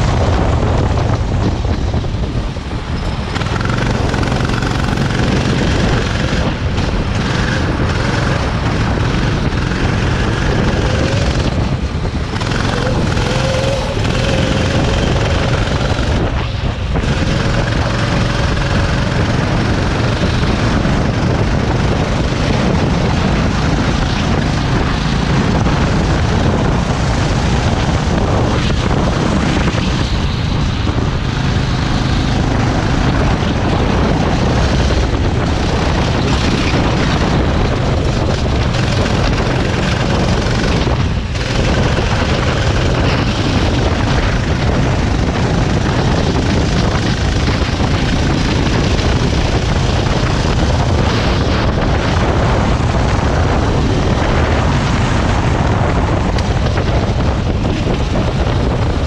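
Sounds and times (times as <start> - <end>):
kart engine drone: 0.0 - 59.0
road and wind noise: 0.0 - 59.0.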